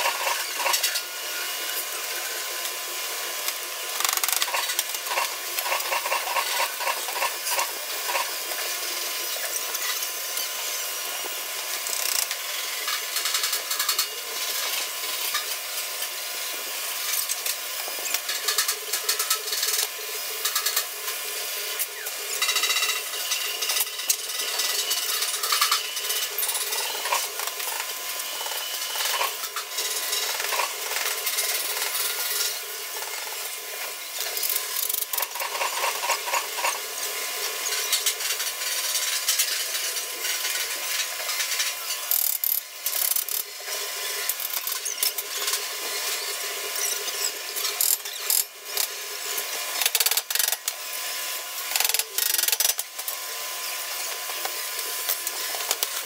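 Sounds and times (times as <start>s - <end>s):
sped-up metalwork clatter and rasping: 0.0s - 56.0s.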